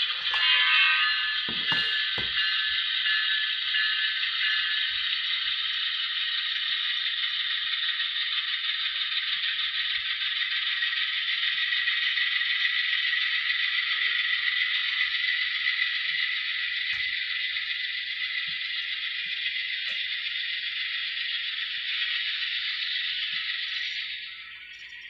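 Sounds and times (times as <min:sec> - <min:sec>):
model train wheels rattling: 0:00.0 - 0:25.0.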